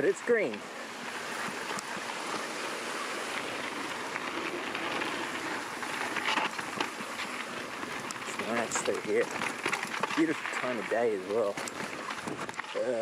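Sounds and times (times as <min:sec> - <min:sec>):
bike rattling and clicking: 0:00.0 - 0:13.0
bike tyres crunching on dirt: 0:00.0 - 0:13.0.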